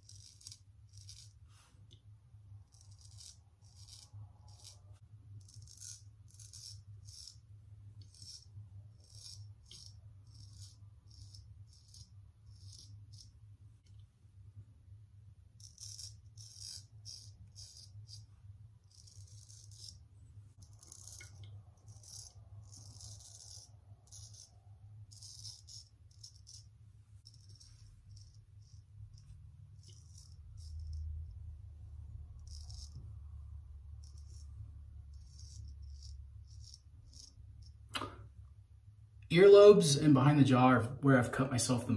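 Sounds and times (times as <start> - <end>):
razor scraping stubble: 0.0 - 1.9, 2.6 - 13.4, 15.6 - 31.6, 32.2 - 38.1
low steady hum: 0.0 - 41.9.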